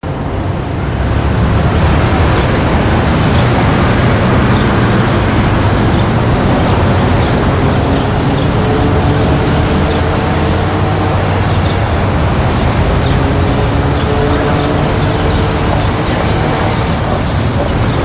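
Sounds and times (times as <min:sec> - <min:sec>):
dense street traffic rumble: 0:00.0 - 0:18.0.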